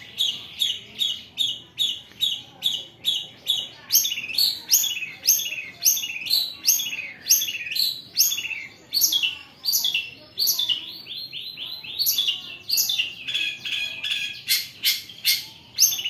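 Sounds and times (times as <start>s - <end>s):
shrike harsh rasping calls: 0.0s - 16.0s.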